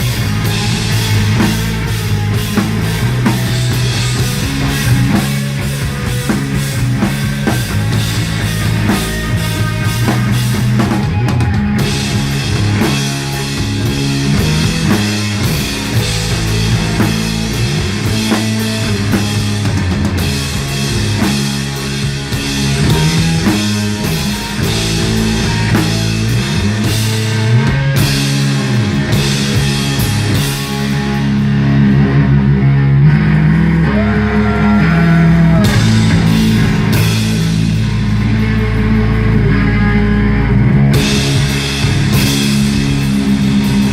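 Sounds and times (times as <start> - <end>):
drum kit: 0.0 - 43.9
guitars: 0.0 - 43.9
live rock band playing: 0.0 - 43.9
low bass notes: 0.0 - 43.9.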